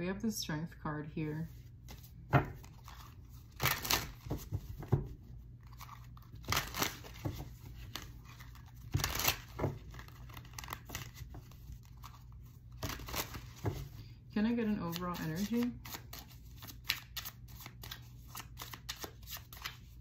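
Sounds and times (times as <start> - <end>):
cards shuffling: 1.8 - 14.0, 14.8 - 20.0.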